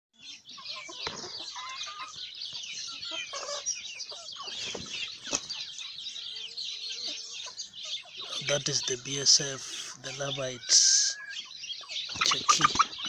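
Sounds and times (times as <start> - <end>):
chickens clucking and chirping: 0.2 - 13.0.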